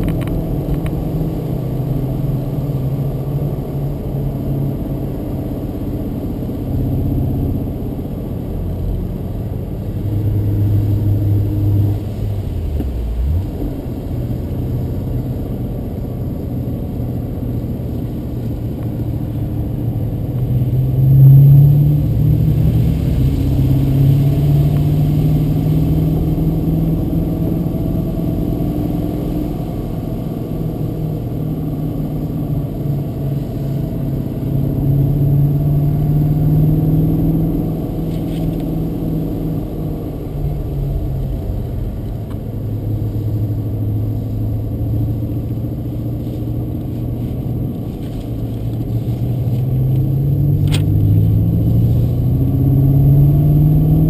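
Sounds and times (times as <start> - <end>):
car engine from inside cabin: 0.0 - 54.0.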